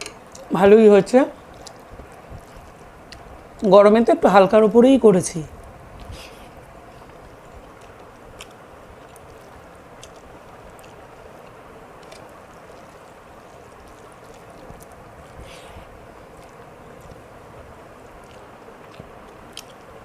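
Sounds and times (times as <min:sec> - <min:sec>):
soft eating clicks: 0:00.0 - 0:00.5, 0:01.4 - 0:03.8, 0:05.6 - 0:20.0
electric fan whooshing: 0:00.0 - 0:20.0.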